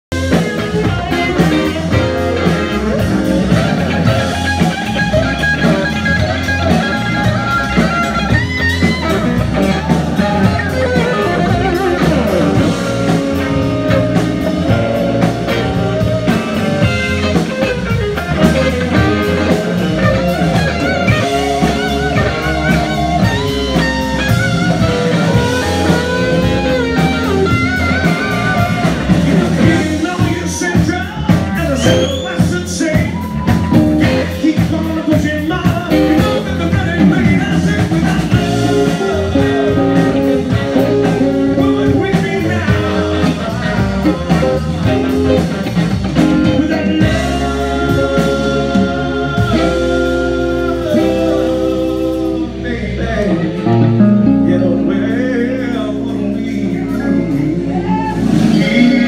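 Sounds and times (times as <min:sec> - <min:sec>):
drum kit beat: 0:00.1 - 0:59.0
electric guitars: 0:00.1 - 0:59.0.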